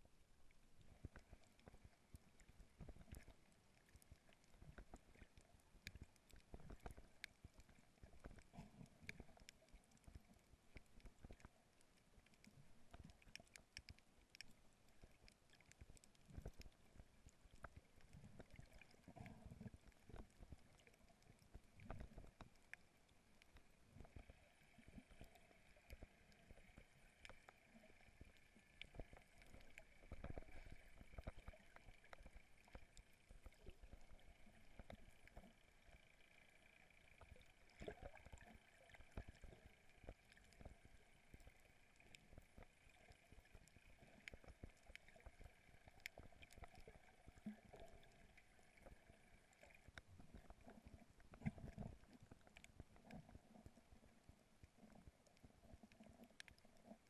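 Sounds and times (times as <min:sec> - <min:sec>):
faint underwater crackling: 0:00.0 - 0:57.0.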